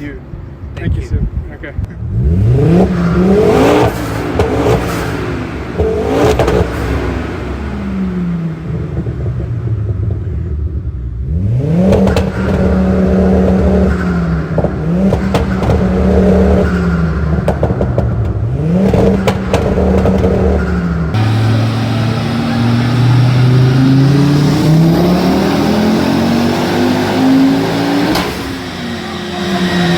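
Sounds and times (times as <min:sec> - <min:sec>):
exhaust crackles: 0:01.7 - 0:29.9
car engine revving: 0:02.0 - 0:29.9.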